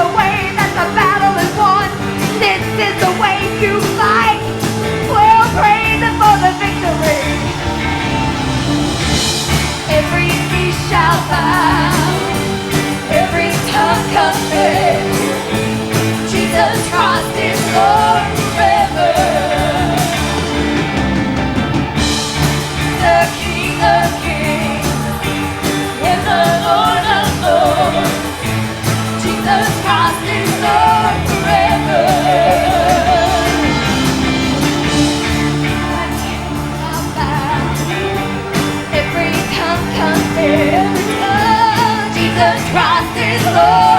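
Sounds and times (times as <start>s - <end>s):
rock-style full band backing: 0.0s - 43.9s.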